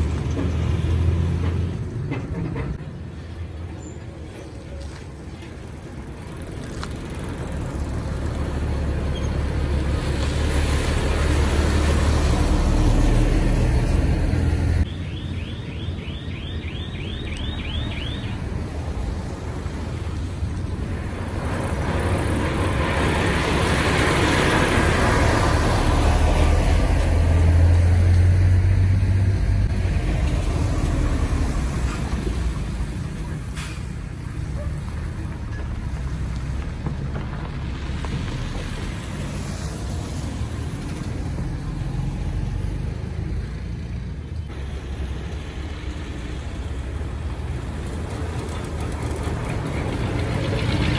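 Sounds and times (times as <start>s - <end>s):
heavy trucks passing: 0.0s - 15.6s, 17.3s - 50.9s
cars and motorbikes passing: 0.0s - 50.9s
tyre noise on dirt road: 0.0s - 50.9s.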